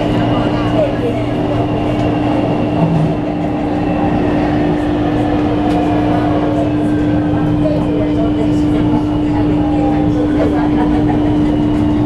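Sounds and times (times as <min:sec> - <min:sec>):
constant low hum: 0:00.0 - 0:12.0
train rumbling: 0:00.0 - 0:12.0.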